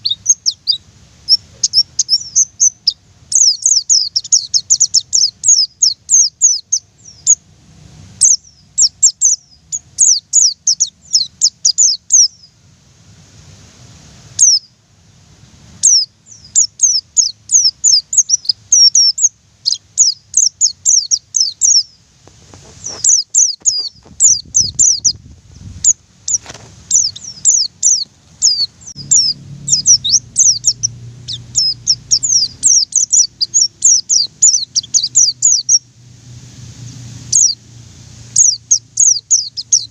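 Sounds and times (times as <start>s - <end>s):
bird singing rapid chirps: 0.0s - 7.5s, 8.2s - 12.6s, 14.4s - 14.8s, 15.8s - 22.0s, 22.8s - 36.0s, 36.8s - 37.7s, 38.3s - 39.9s.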